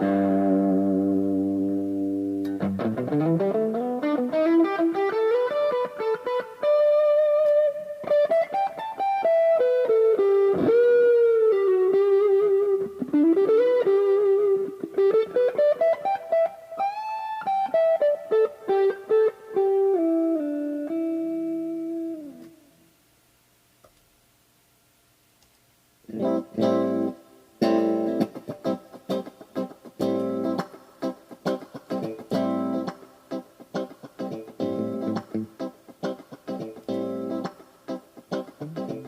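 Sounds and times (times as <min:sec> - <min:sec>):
electric guitar lead melody: 0:00.0 - 0:22.7, 0:26.1 - 0:39.0.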